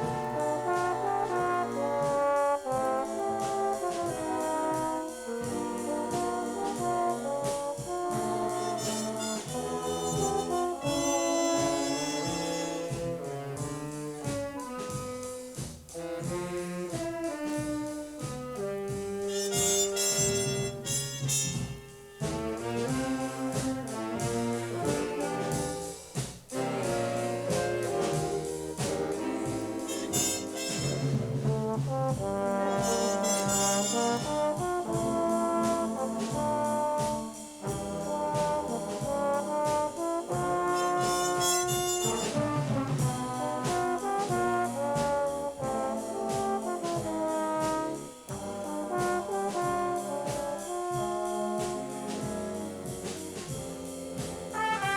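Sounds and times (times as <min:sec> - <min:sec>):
big band jazz: 0:00.0 - 0:54.9
trombones playing: 0:00.0 - 0:54.9.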